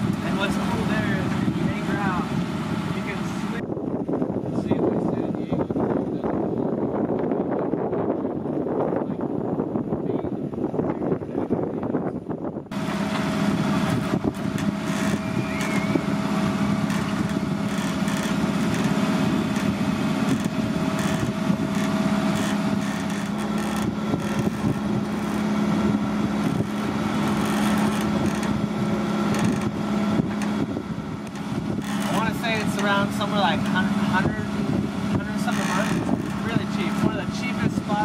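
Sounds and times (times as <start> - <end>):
water noise: 0.0 - 11.8, 12.6 - 38.0
boat motor humming: 0.0 - 38.0
wind: 0.0 - 38.0.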